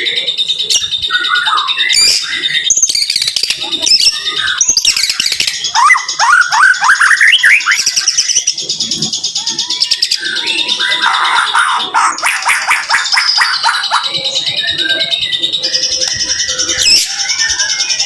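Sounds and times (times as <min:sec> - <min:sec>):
songbird singing rapid song: 0:00.0 - 0:18.0.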